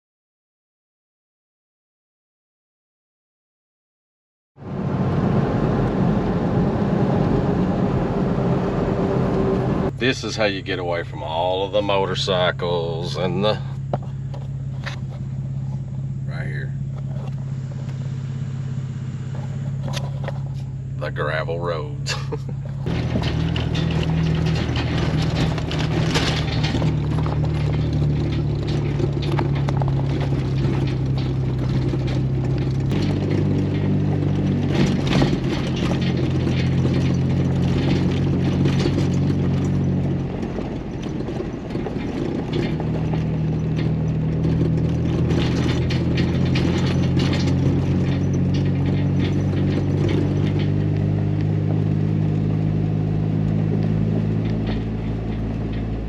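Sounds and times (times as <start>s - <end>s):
car engine running: 4.6s - 56.0s
tyres crunching on gravel: 9.9s - 56.0s.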